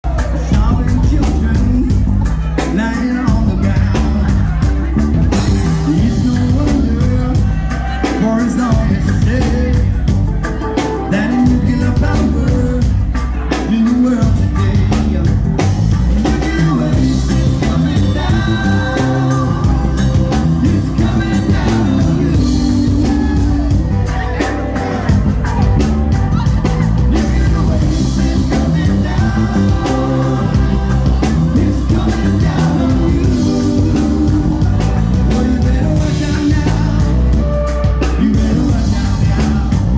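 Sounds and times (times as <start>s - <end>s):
band playing a song: 0.0s - 39.9s
person singing: 0.0s - 39.9s
steady drum beat: 0.0s - 39.9s.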